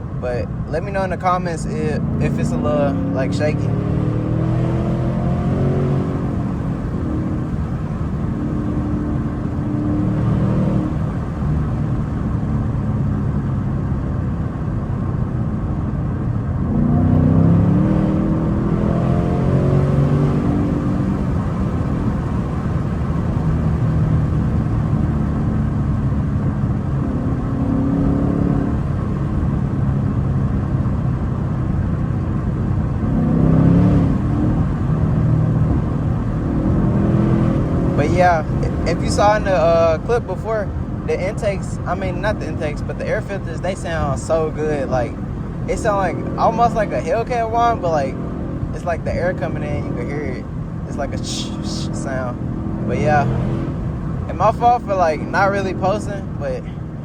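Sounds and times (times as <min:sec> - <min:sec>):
car engine from inside cabin: 0:00.0 - 0:57.0.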